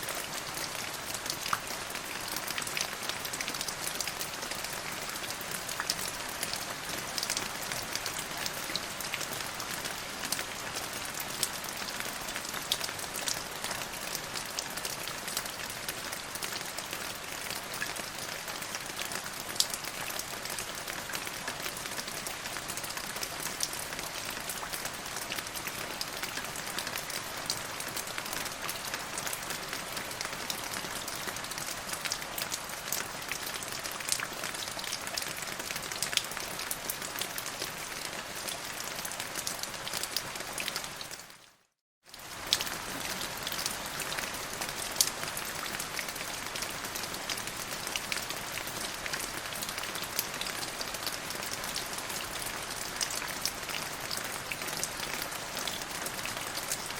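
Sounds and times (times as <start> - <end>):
steady rain on a surface: 0.0 - 56.9.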